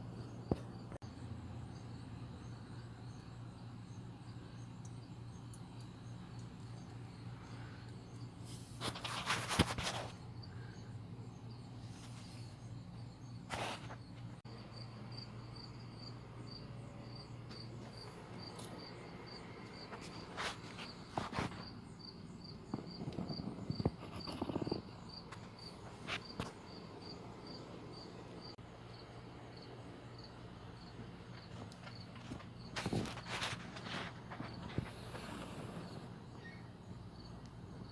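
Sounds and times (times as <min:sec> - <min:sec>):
high insect-like chirp: 0:00.0 - 0:37.9.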